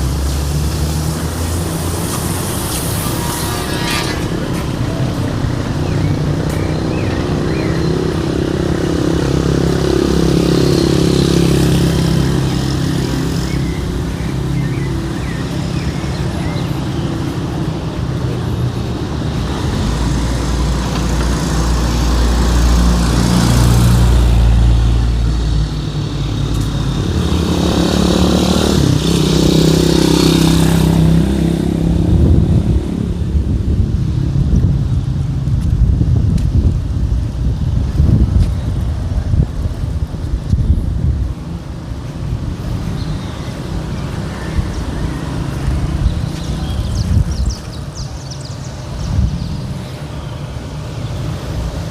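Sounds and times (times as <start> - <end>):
traffic engines running: 0.0 - 51.9
vehicles passing close by: 0.0 - 51.9.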